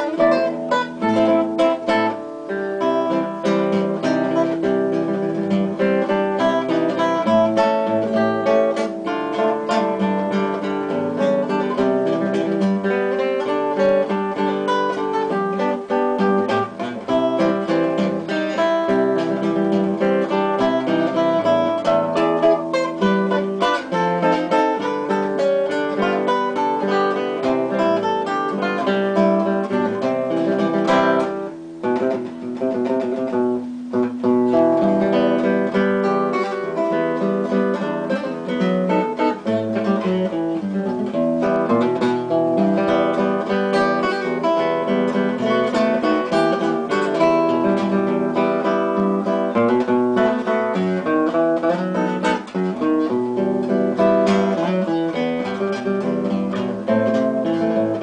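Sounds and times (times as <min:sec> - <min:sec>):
acoustic guitar music: 0:00.0 - 0:58.0.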